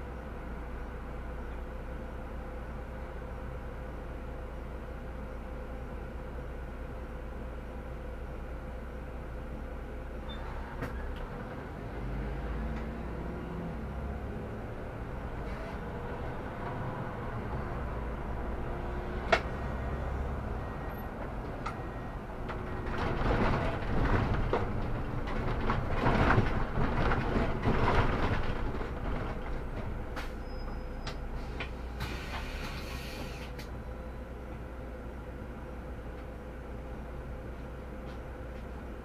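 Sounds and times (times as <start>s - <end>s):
bus engine rumble: 0.0s - 39.0s.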